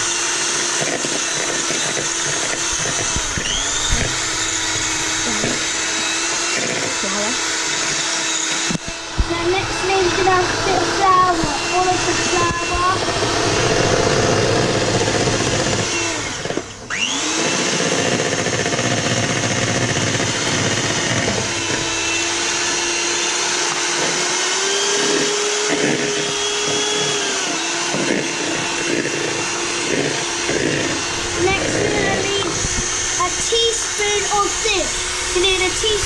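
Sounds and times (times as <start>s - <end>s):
electric hand mixer running: 0.0s - 36.0s.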